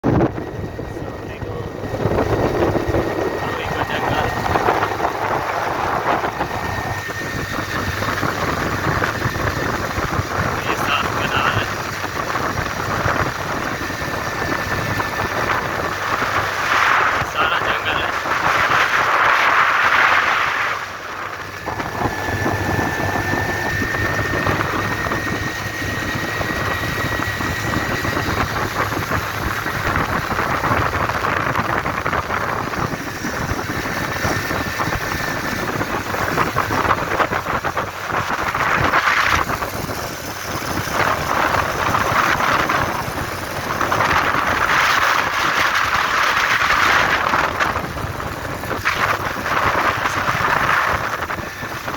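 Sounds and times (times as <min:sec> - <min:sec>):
motorcycle engine running: 0:00.0 - 0:51.9
steady rushing noise: 0:00.0 - 0:51.9.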